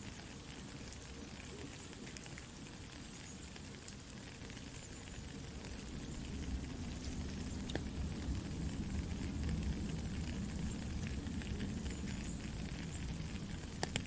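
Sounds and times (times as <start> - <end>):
campfire crackling: 0.0 - 14.0
soft rain: 0.0 - 14.0.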